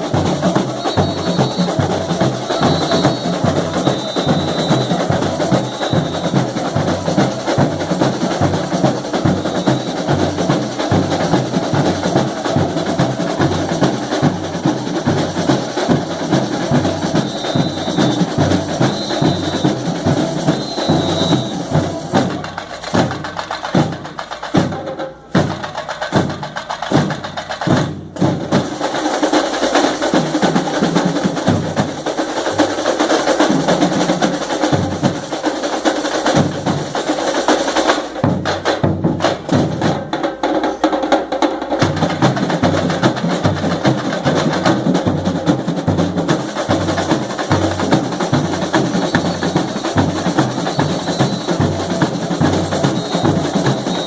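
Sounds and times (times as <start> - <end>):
samba percussion playing: 0.0 - 54.0.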